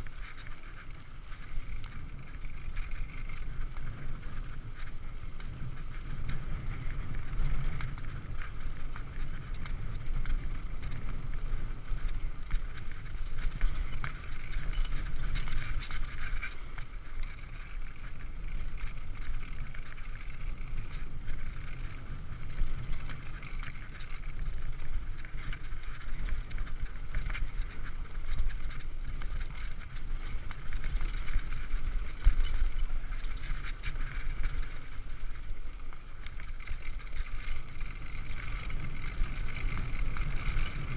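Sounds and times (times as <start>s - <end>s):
bike rattling over bumps: 0.0s - 40.9s
bike tyres on dirt: 0.0s - 40.9s
wind buffeting microphone: 0.0s - 40.9s.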